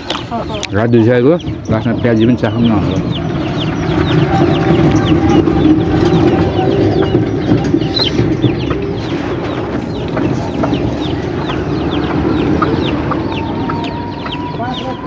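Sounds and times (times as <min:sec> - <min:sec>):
small birds chirping: 0:00.0 - 0:15.0
steady low hum: 0:01.2 - 0:15.0.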